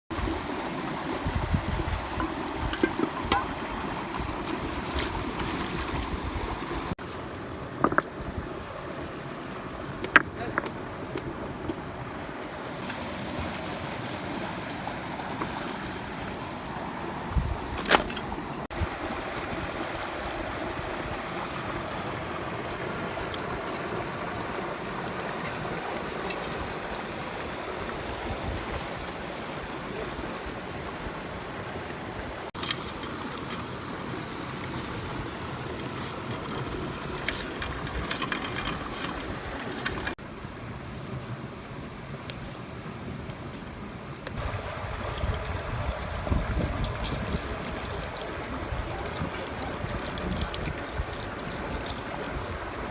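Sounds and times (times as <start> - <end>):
rushing mountain stream: 0.1 - 52.9.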